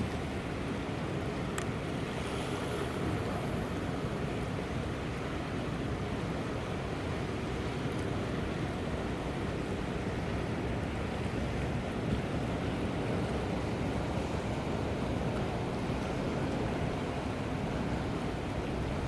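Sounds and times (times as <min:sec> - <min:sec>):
strong wind and rough sea: 0:00.0 - 0:19.0.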